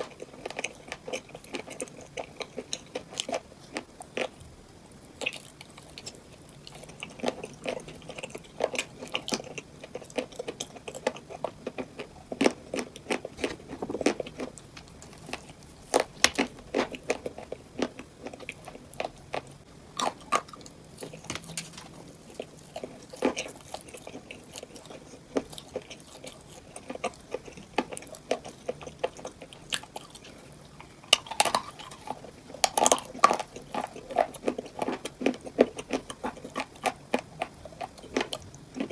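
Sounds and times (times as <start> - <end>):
chewing crunchy cupcakes: 0.0 - 38.9.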